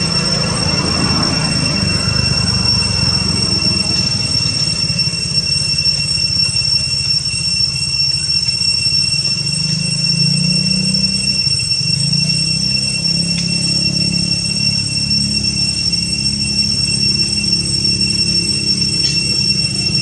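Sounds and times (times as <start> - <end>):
high whine: 0.0 - 20.0.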